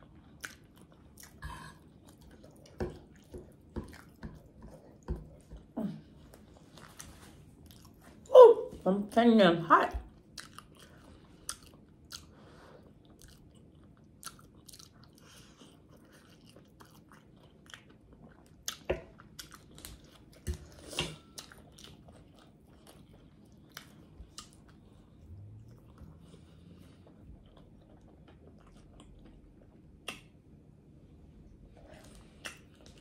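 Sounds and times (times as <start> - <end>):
person chewing and smacking: 0.0 - 8.3, 10.0 - 30.5, 32.0 - 33.0.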